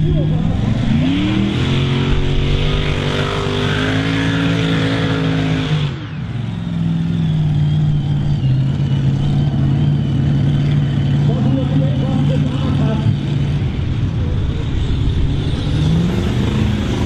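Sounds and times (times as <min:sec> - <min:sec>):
tractor engine revving: 0:00.0 - 0:17.0.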